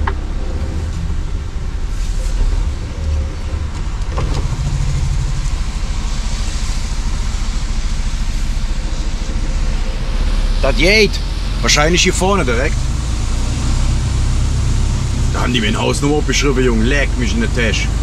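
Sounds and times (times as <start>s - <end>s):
diesel engine rumble: 0.0s - 18.0s
tyre and road noise: 0.0s - 18.0s.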